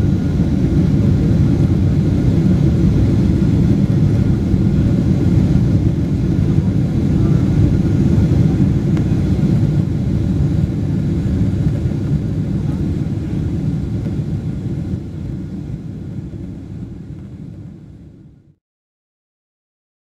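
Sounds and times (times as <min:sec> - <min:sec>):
jet engines at climb power: 0:00.0 - 0:18.6.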